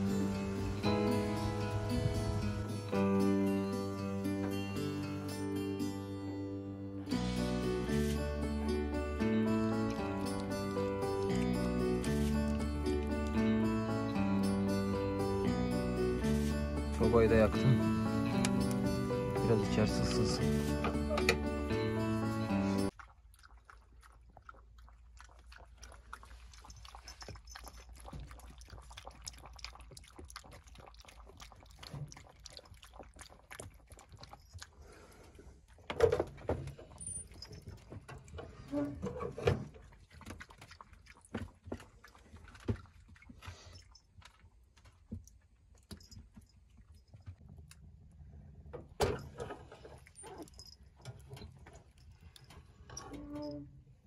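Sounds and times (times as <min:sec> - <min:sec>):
puppies chewing and eating: 0:07.2 - 0:15.5, 0:16.1 - 0:54.0.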